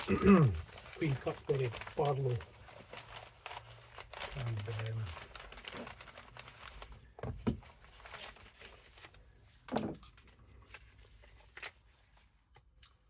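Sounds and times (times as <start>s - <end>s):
packaging crinkling: 0.0s - 11.9s.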